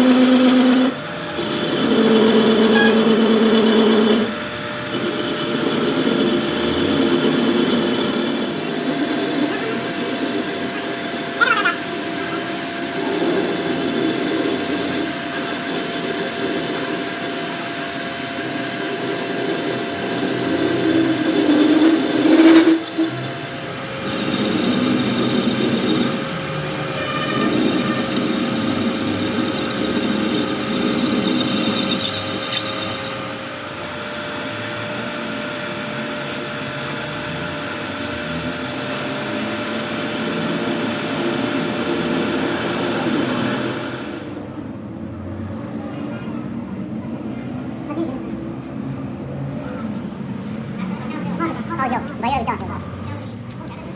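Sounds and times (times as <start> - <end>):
workshop machinery noise: 0.0 - 45.8, 47.0 - 53.9.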